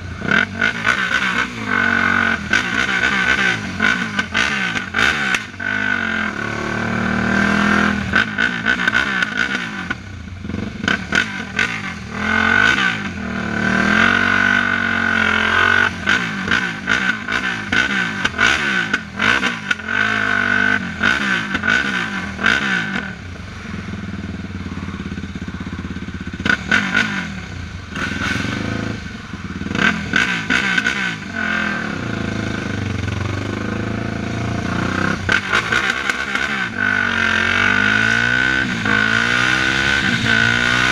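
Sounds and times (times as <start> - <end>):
quad engine revving: 0.0 - 23.2, 25.9 - 40.9.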